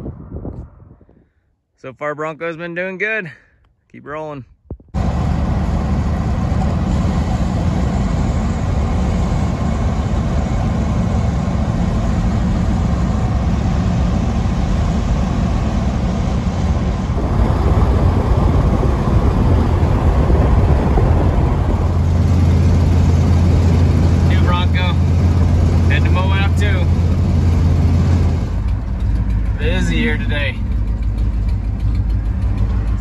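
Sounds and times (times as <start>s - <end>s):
car driving rumble: 4.9s - 33.0s
deep drone: 5.0s - 33.0s.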